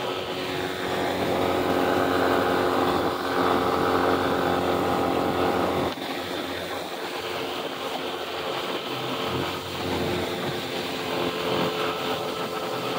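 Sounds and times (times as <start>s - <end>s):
outboard motor running: 0.0s - 12.9s
water noise: 0.0s - 12.9s
wind noise: 0.0s - 12.9s.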